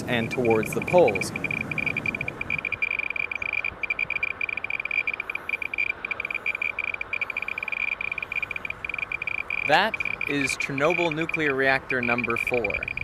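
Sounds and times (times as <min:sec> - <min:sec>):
radiation meter chirping beeps: 0:00.0 - 0:13.0.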